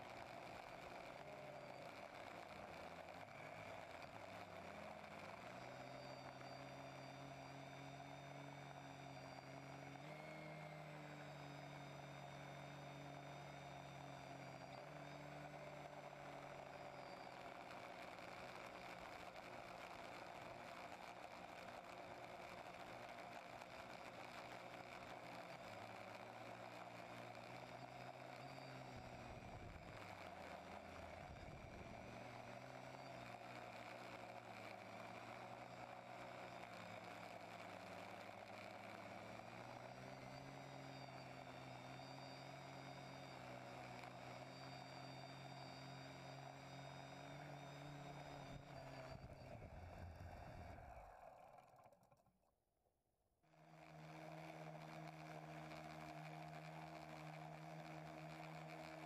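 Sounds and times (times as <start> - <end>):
quadcopter propellers humming: 0.0 - 52.2.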